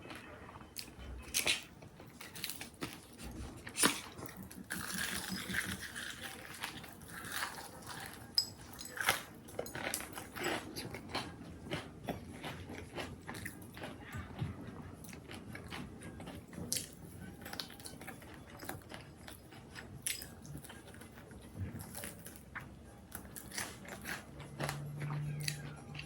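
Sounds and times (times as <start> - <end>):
chewing crunchy food: 0.0 - 26.0.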